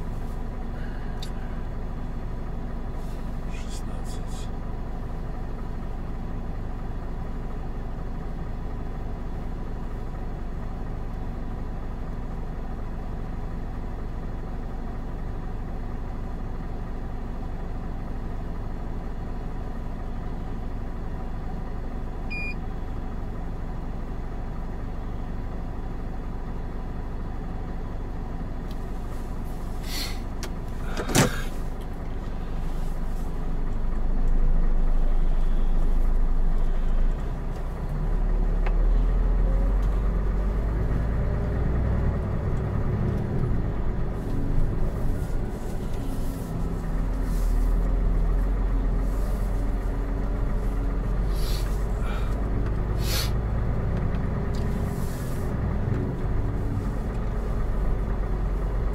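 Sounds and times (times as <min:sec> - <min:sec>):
truck engine idling: 0:00.0 - 0:58.9.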